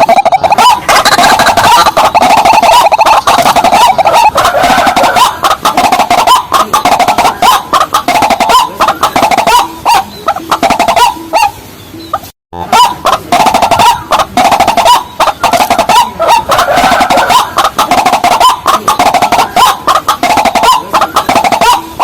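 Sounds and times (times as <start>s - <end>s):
waterhen croaking calls: 0.0s - 22.0s.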